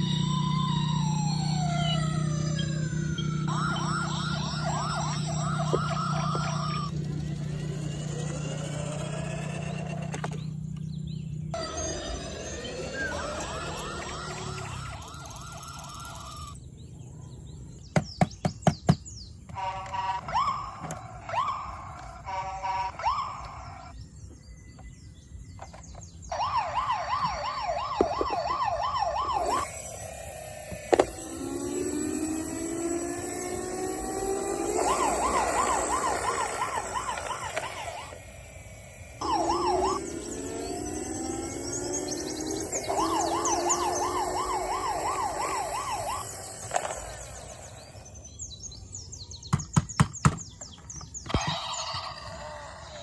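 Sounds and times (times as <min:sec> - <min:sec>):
electronic toy siren warbling: 0:00.0 - 0:10.6, 0:11.5 - 0:16.6, 0:19.5 - 0:24.0, 0:25.6 - 0:48.3, 0:51.2 - 0:53.0.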